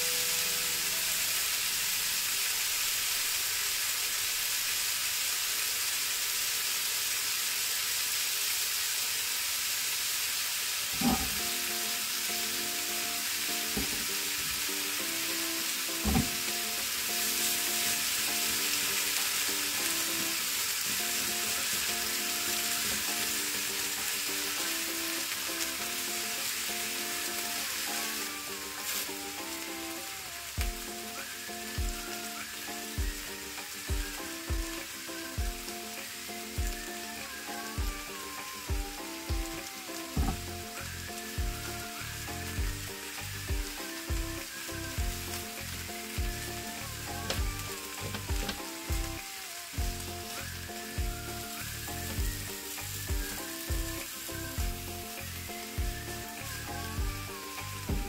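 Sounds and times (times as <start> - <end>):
soft background music: 0.0 - 2.6, 11.0 - 58.0
food sizzling in a frying pan: 0.0 - 58.0.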